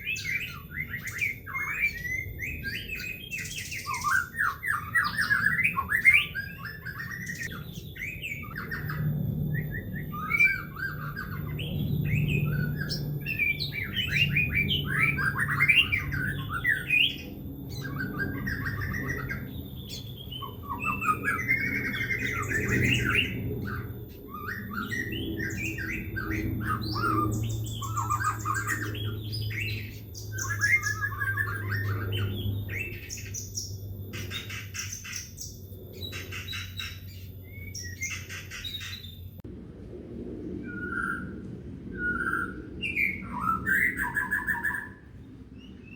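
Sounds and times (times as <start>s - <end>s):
songbird singing: 0.0s - 39.5s, 40.5s - 45.9s
steady low hum: 0.0s - 45.9s.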